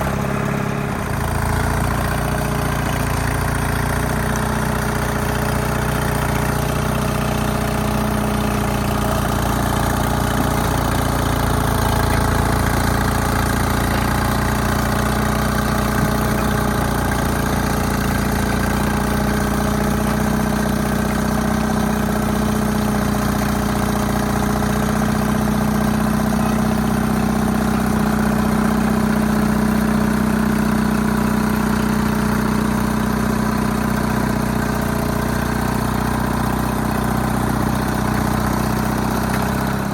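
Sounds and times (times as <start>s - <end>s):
diesel bulldozer engine running: 0.0s - 39.9s.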